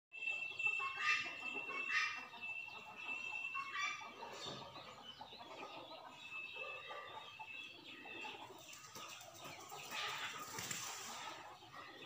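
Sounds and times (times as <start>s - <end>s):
birds calling: 0.1s - 12.0s.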